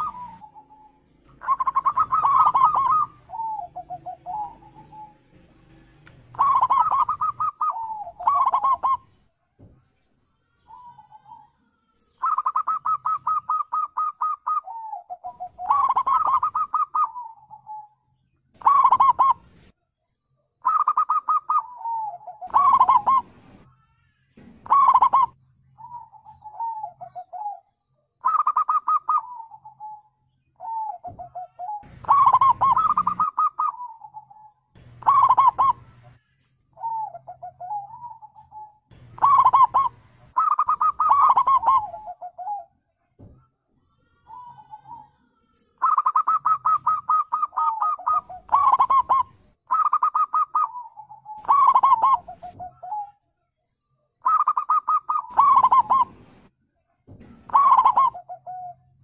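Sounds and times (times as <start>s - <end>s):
doves cooing: 0.0s - 9.2s, 10.5s - 18.0s, 18.6s - 19.7s, 20.6s - 23.8s, 24.6s - 43.3s, 43.9s - 53.2s, 54.2s - 56.5s, 57.2s - 59.0s.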